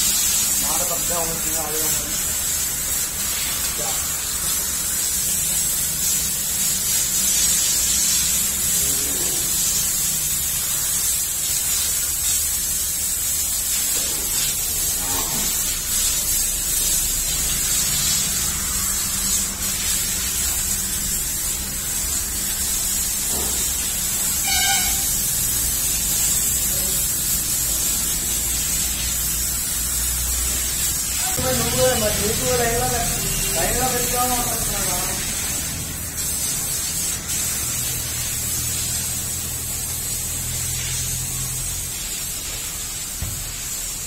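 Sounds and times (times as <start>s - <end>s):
hose water jetting: 0.0s - 44.0s.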